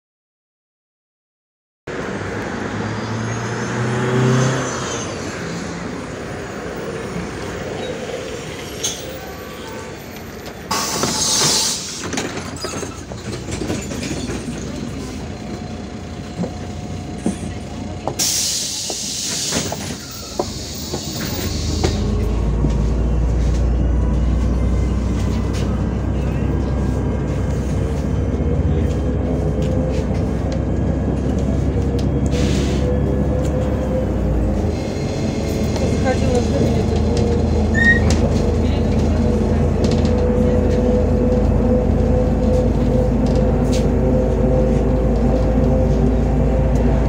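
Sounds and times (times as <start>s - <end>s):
diesel engine rumble: 1.9s - 47.0s
bus cabin noise: 4.1s - 47.0s.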